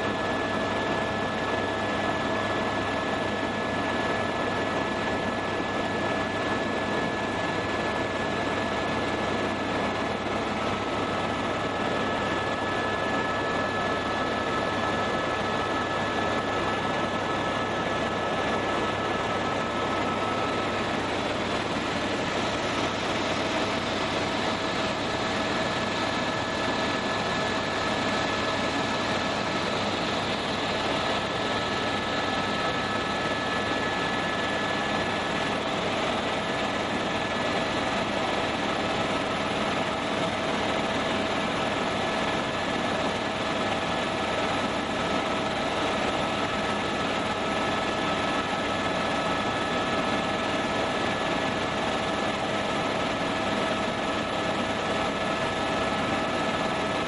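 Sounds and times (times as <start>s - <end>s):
helicopter turbine and rotor noise: 0.0s - 57.0s
high steady whine: 0.0s - 57.0s.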